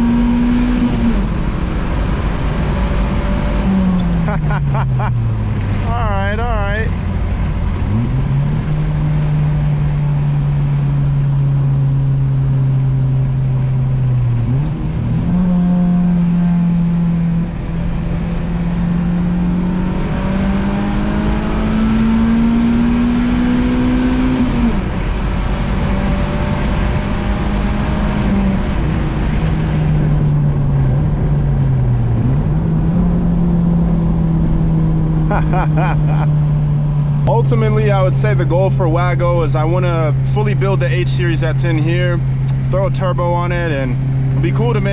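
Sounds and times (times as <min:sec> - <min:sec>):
car engine accelerating: 0:00.0 - 0:44.9
road and wind noise: 0:00.0 - 0:44.9.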